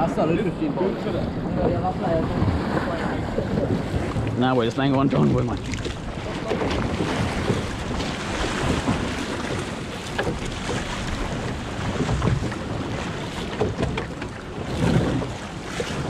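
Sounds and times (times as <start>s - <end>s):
water sloshing against hull: 0.0s - 16.0s
wind buffeting microphone: 0.0s - 16.0s.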